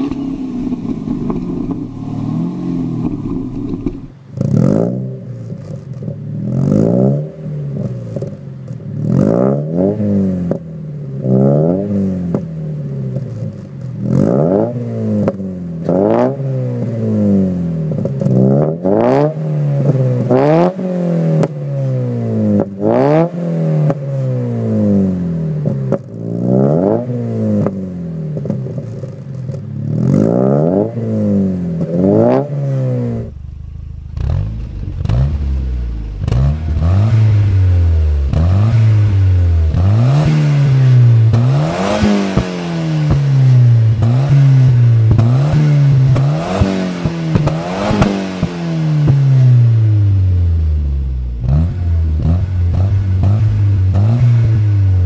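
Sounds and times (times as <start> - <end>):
car engine revving: 0.0 - 55.0
car engine running with small revs: 0.0 - 55.0.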